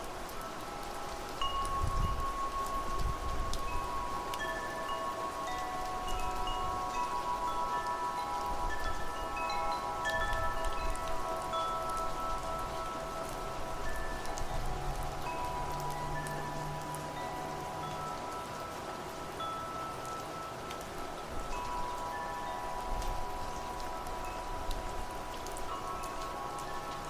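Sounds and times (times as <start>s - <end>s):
low wind gusts: 0.0s - 27.0s
rain hiss: 0.0s - 27.0s
wind chimes ringing: 0.0s - 27.0s.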